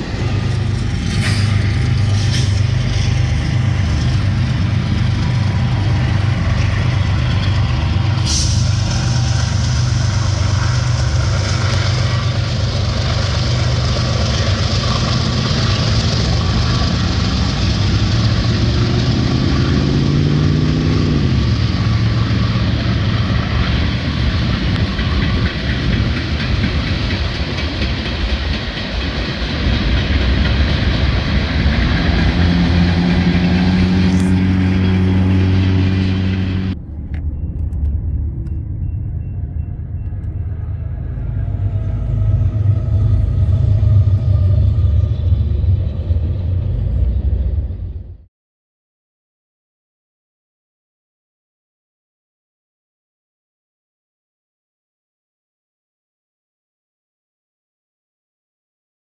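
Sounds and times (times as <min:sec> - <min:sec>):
diesel locomotive engines running: 0:00.0 - 0:48.3
rail cars rumbling: 0:00.0 - 0:48.3.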